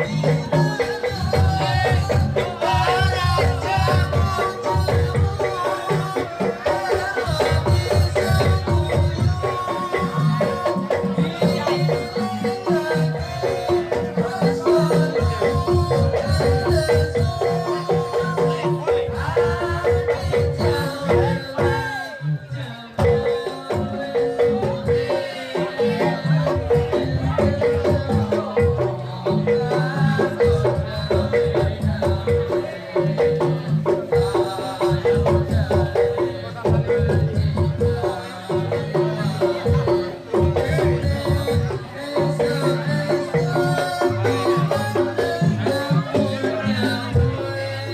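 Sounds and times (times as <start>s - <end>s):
mallet-struck metal percussion: 0.0s - 47.9s
steady drumming: 0.0s - 47.9s.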